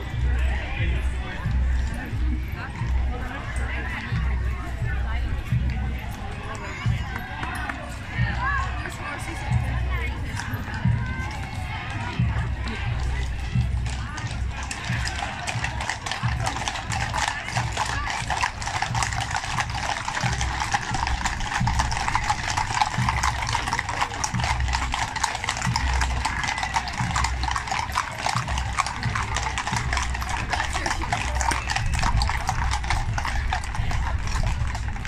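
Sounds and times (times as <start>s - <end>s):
horses hooves clip-clopping on tarmac: 0.0s - 35.0s.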